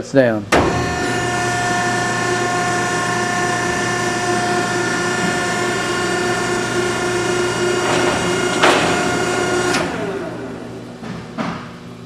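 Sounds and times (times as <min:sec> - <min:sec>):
baler motor and hydraulic pump hum: 0:00.5 - 0:12.0.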